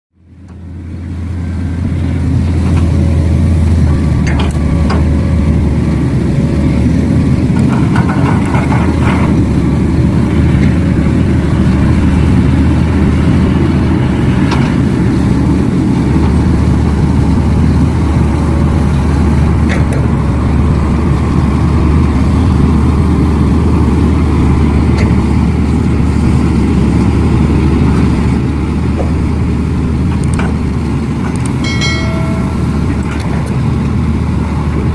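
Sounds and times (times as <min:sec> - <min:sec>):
diesel engine droning: 0:00.1 - 0:34.9.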